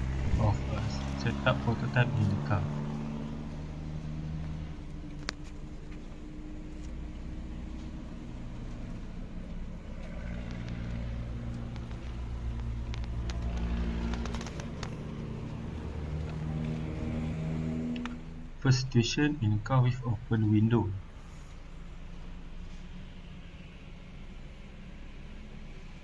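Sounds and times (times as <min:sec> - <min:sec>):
car engine hum from inside: 0:00.0 - 0:26.0.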